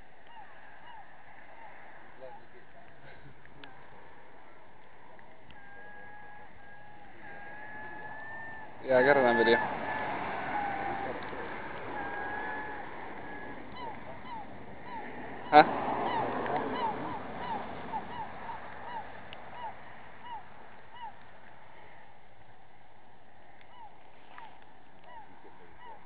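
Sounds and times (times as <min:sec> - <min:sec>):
gulls calling: 0:00.0 - 0:26.0.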